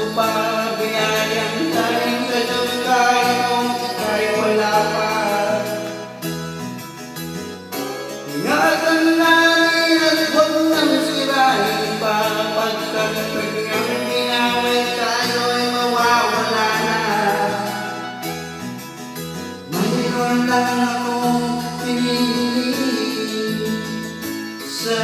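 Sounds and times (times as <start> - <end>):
man singing into a microphone: 0.0 - 6.3, 7.7 - 18.4, 19.6 - 25.0
recorded backing track: 0.0 - 25.0.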